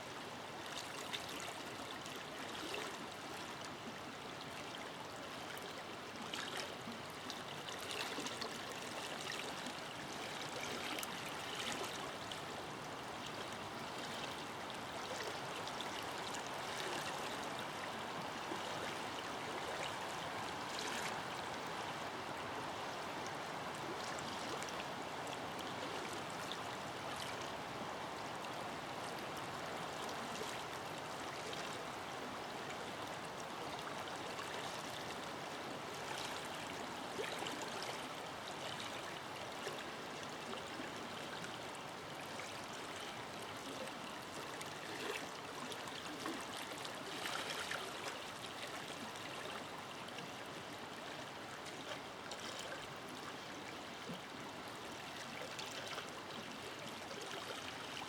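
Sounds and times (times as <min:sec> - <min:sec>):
river rushing and babbling: 0:00.0 - 0:58.0
water splashes and gurgles: 0:00.6 - 0:58.0.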